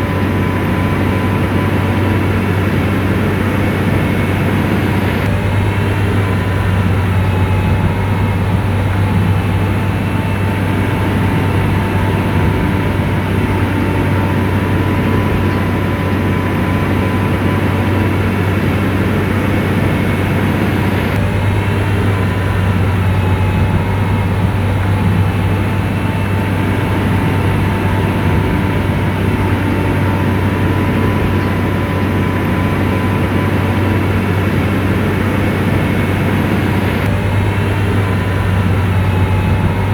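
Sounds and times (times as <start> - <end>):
bulldozer diesel engine droning: 0.0 - 39.9
faint steady whine: 0.0 - 39.9.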